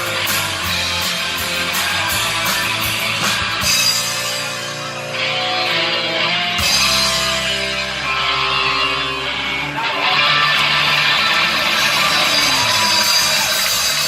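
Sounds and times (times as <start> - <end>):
electric guitar: 0.0 - 14.0
rock band playing: 0.0 - 14.0.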